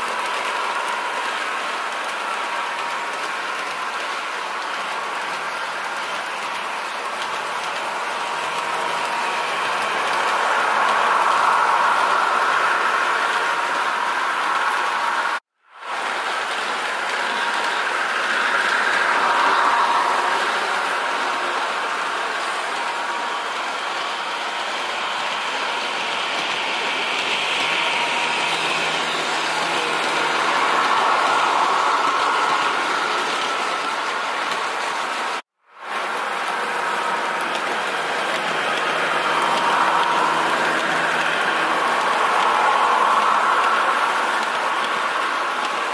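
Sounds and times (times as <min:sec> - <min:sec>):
model train running sounds: 0:00.0 - 0:45.9.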